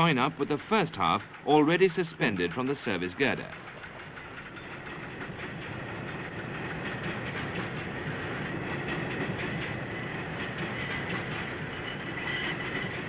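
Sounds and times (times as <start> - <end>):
train wheels rumbling and clattering: 0.0 - 13.0.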